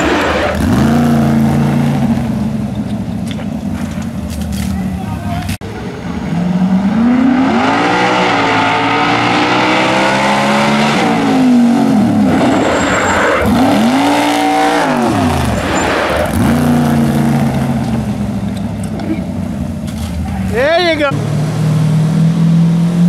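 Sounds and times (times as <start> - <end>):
engine revving: 0.0 - 3.0, 5.9 - 23.0.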